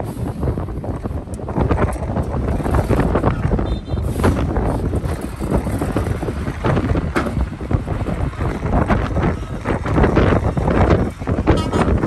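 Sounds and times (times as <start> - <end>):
diesel truck engine running: 0.0 - 12.0
wind buffeting microphone: 0.0 - 12.0.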